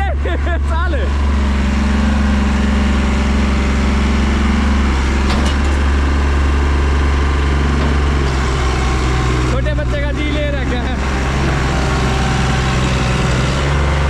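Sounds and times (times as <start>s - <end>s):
tractor engine straining: 0.0s - 14.0s.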